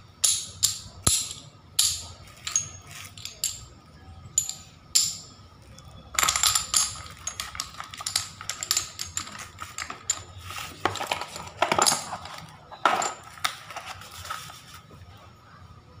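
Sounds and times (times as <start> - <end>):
ceramic tiles clinking: 0.1 - 14.6.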